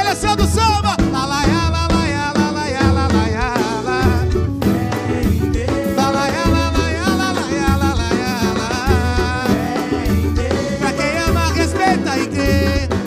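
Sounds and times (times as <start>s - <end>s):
cavaquinho: 0.0s - 13.0s
hand drums: 0.0s - 13.0s
low bass line: 0.0s - 13.0s
man singing: 0.0s - 13.0s.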